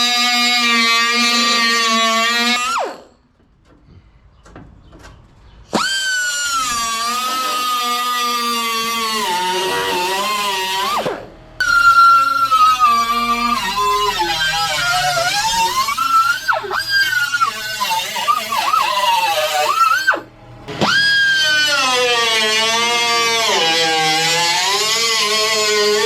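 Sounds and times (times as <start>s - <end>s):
power cutting tool cutting steel: 0.0s - 3.2s, 5.7s - 26.0s.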